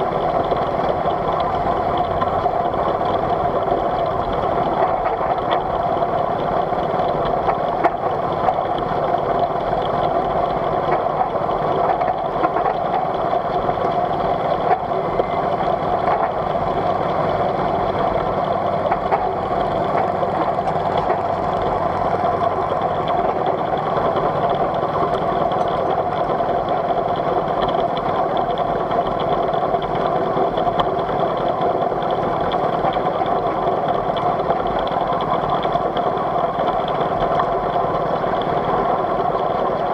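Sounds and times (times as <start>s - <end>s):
miniature steam locomotive running: 0.0s - 39.9s.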